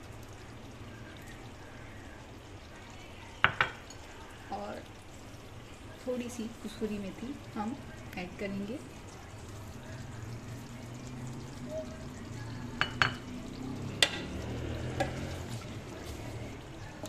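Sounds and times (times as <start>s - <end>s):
curry simmering in a wok: 0.0s - 17.0s
low steady hum: 0.0s - 17.0s.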